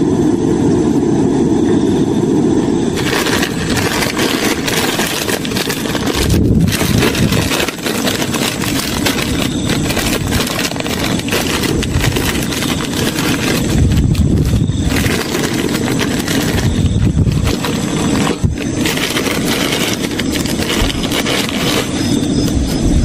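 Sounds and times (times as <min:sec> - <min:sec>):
steady low rumble: 0:00.0 - 0:23.0
plastic packet crinkling: 0:03.0 - 0:22.6.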